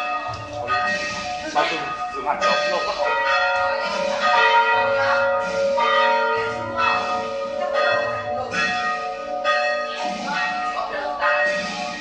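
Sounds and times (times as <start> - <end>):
church bells tolling: 0.0 - 12.0.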